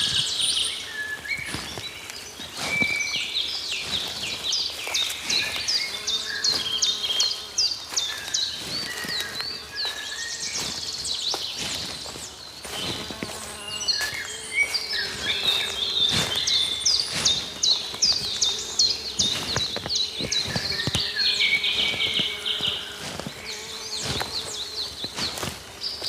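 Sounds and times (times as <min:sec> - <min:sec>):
faint insect buzz: 0:00.0 - 0:26.0
footsteps crunching on forest floor: 0:00.0 - 0:26.0
songbirds singing: 0:00.0 - 0:26.0.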